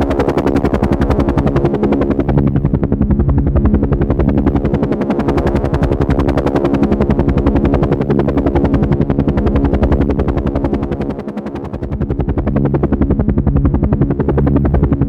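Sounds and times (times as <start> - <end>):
helicopter engine hum: 0.0 - 15.0
helicopter rotor chopping: 0.0 - 15.0.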